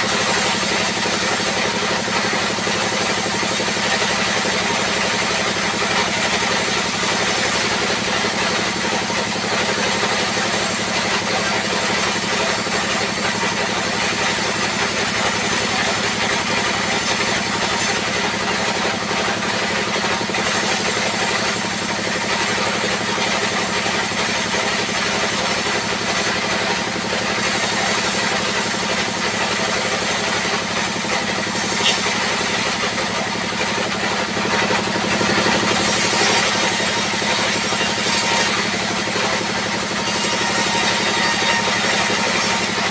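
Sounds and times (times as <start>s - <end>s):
band saw machinery drone: 0.0s - 42.9s.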